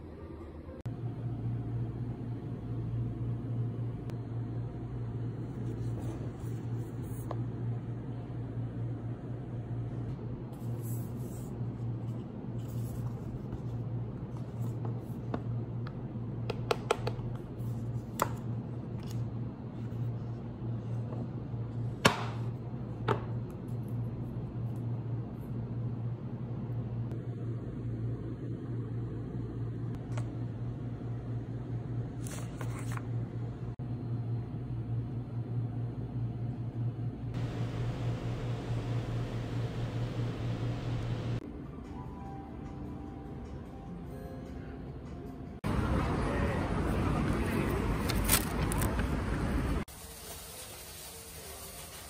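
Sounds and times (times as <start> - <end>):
steady low hum: 0.0 - 41.8.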